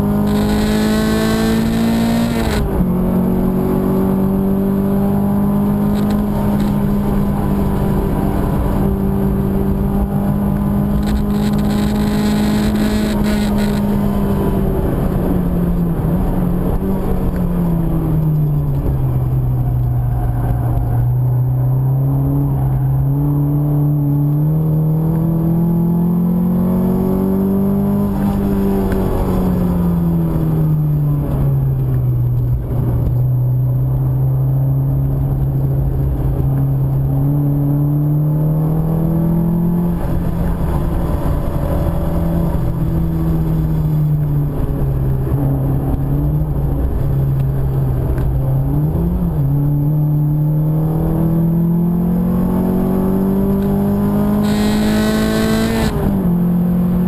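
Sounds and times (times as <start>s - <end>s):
car engine revving: 0.0s - 31.5s, 36.0s - 57.0s.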